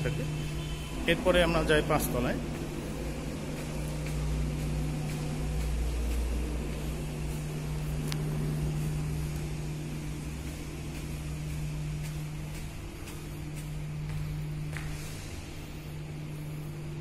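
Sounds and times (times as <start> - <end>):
faint footsteps on tiled stairs: 0.0 - 17.0
steady low hum: 0.0 - 17.0.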